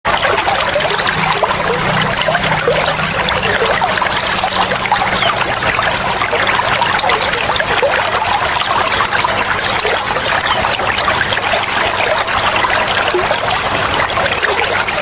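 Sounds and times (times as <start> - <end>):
water splashing and trickling: 0.0 - 15.0
small birds chirping: 0.4 - 15.0.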